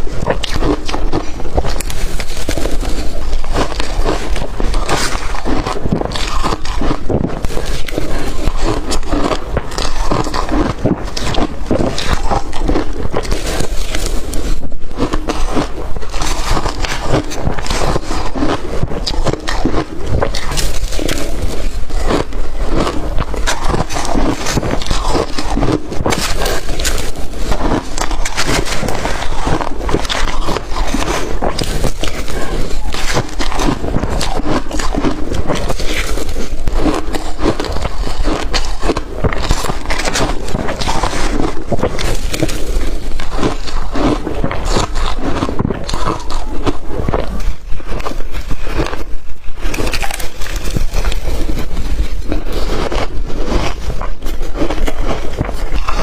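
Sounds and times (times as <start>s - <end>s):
person chewing crushed ice: 0.0s - 56.0s.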